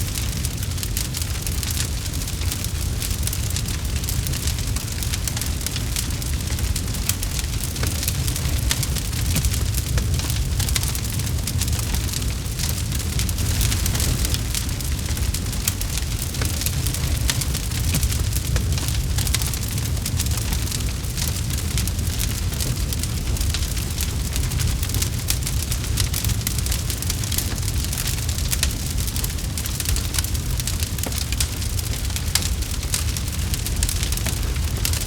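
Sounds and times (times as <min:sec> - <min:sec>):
campfire crackling and popping: 0:00.0 - 0:35.0
low fire rumble: 0:00.0 - 0:35.0.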